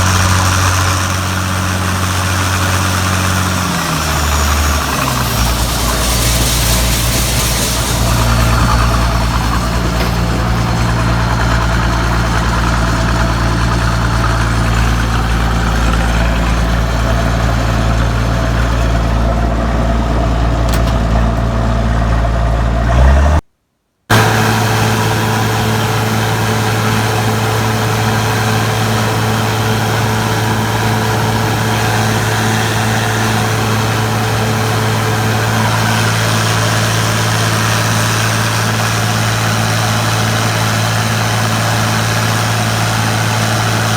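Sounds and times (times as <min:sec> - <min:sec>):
machinery engine humming: 0:00.0 - 0:23.2, 0:24.1 - 0:43.9.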